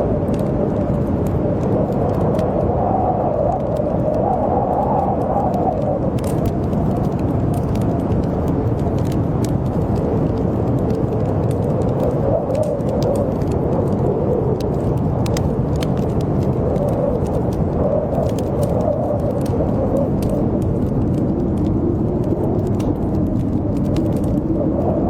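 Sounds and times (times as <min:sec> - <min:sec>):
wind howling: 0:00.0 - 0:25.0
wood fire crackling: 0:00.0 - 0:25.0.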